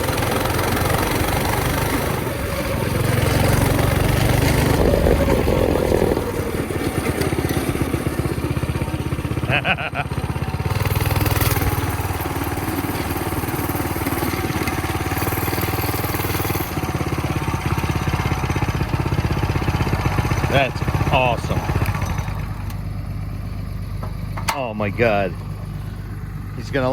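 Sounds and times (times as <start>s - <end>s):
small engine running: 0.0s - 26.9s.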